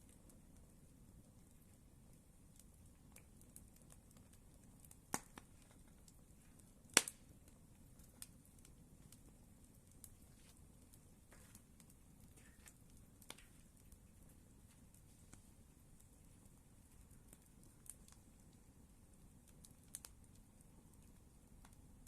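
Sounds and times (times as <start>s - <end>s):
campfire crackling: 0.0s - 22.0s
faint steady hiss: 0.0s - 22.0s.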